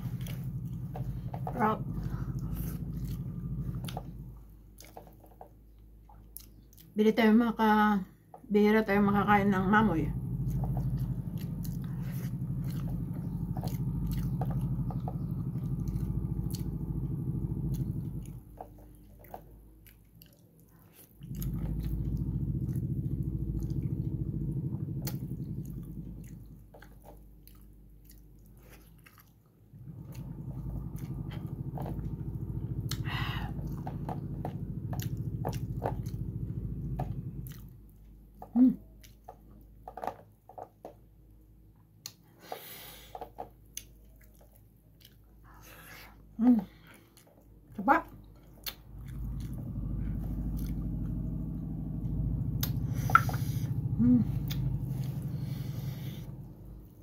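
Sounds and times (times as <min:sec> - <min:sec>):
chewing food: 0:00.0 - 0:07.0, 0:10.2 - 0:40.1, 0:41.8 - 0:57.0.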